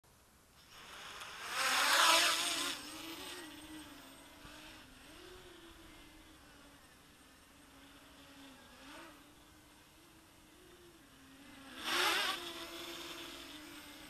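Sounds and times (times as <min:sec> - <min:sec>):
quadcopter motors buzzing: 0:00.6 - 0:14.0.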